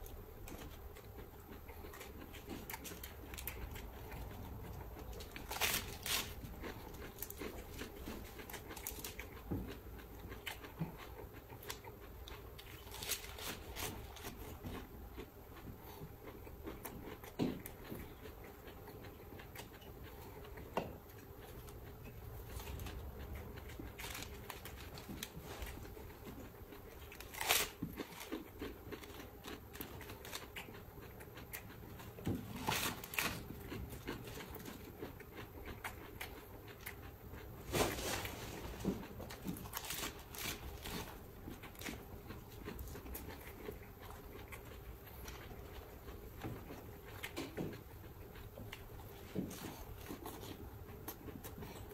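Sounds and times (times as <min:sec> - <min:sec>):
lettuce being chewed: 0:00.0 - 0:51.9.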